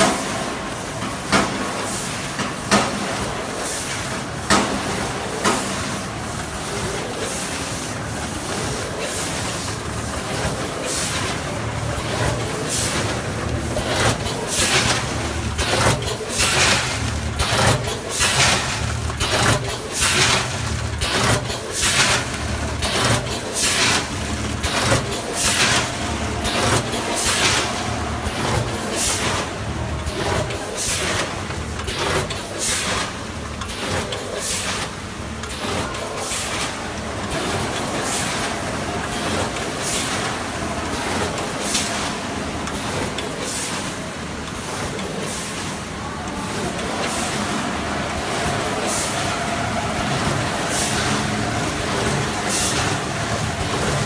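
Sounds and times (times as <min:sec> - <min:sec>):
packing machine rushing and rattling: 0:00.0 - 0:54.0.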